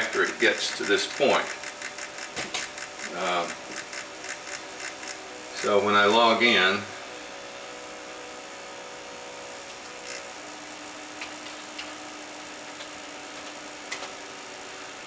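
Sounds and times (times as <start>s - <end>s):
computer fan whir: 0.0s - 15.0s.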